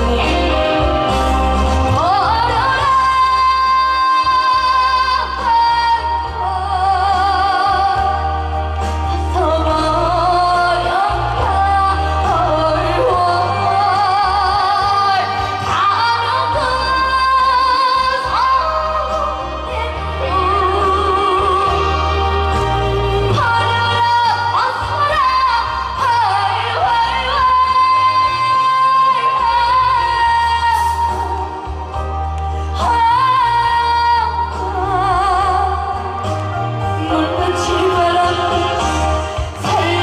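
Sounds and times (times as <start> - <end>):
instrumental accompaniment with bass: 0.0 - 40.0
woman singing with vibrato: 0.0 - 40.0.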